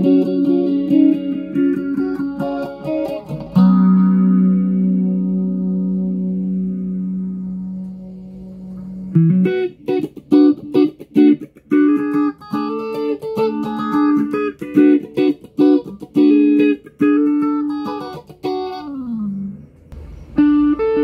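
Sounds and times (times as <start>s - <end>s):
electric guitar melody: 0.0s - 21.0s.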